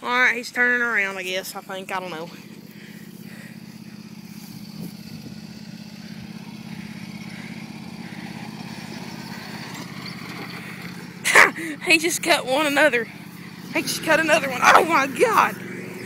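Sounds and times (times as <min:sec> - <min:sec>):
riding mower engine running: 0:00.0 - 0:16.0.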